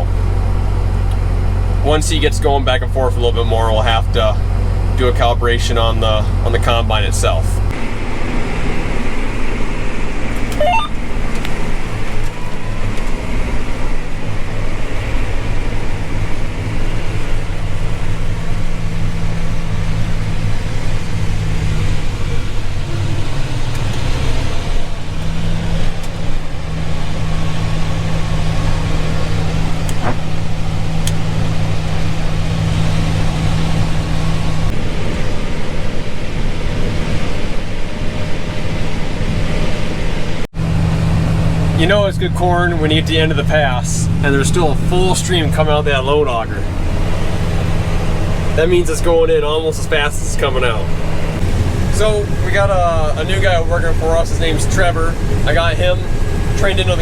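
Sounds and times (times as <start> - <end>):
harvester engine hum: 0.0 - 57.0.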